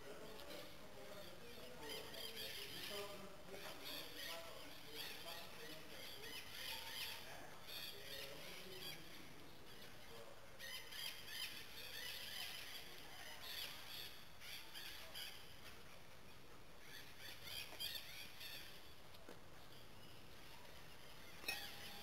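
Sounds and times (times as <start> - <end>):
small birds chirping and squeaking: 0.2 - 19.0, 19.6 - 22.0.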